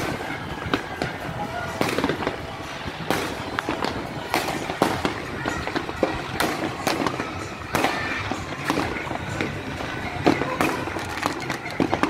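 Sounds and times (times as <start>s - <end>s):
fireworks and firecrackers crackling: 0.0s - 12.0s
loud firework blasts: 0.0s - 12.0s.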